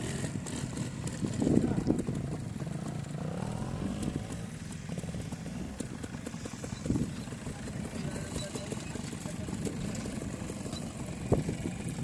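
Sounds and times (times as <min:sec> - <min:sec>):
motorcycle engine chugging: 0:00.0 - 0:12.0.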